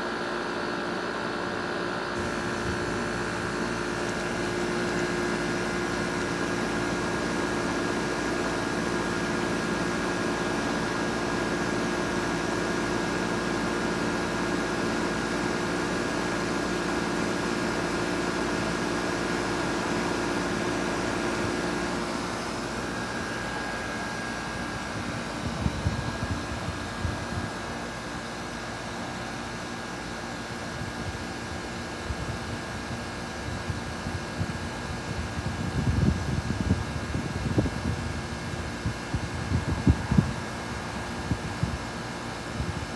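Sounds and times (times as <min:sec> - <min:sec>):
heat pump mechanical hum: 0:00.0 - 0:42.9.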